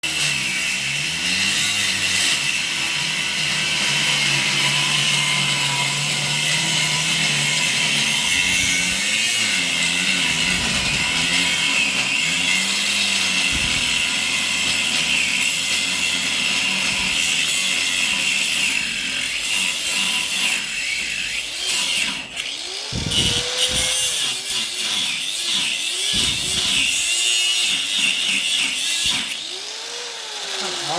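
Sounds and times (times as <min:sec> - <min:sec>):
power tool cutting steel: 0:00.0 - 0:30.9.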